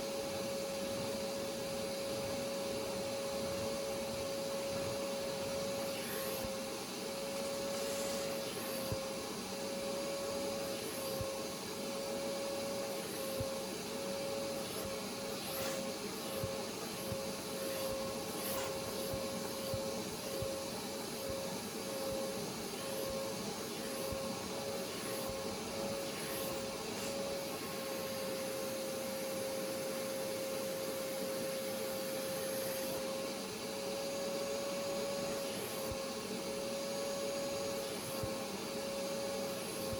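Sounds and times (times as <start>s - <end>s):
carpet cleaner suction whine: 0.0s - 39.9s.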